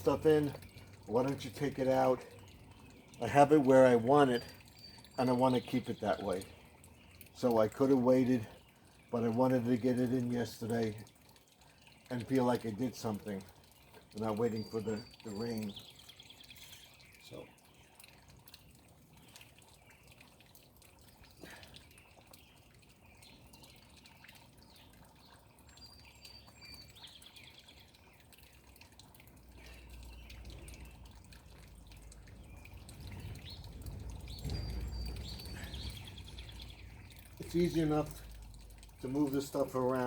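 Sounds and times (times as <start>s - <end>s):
birds chirping: 0.0s - 40.0s
faint trickling water: 0.0s - 40.0s.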